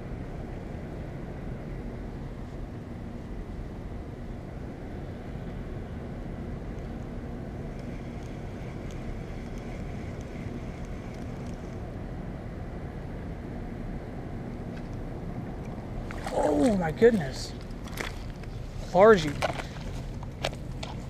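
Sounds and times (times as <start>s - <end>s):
distant motor rumble: 0.0s - 21.0s
faint hum: 0.0s - 21.0s.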